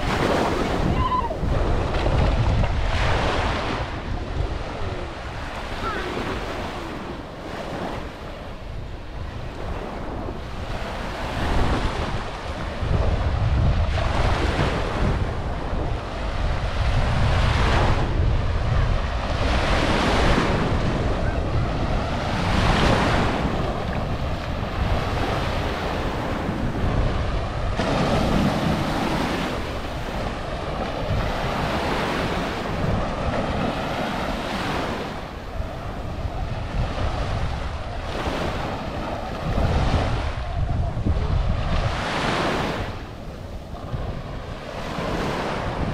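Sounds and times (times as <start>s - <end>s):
waves breaking on shore: 0.0s - 45.9s
wind on microphone: 0.0s - 45.9s.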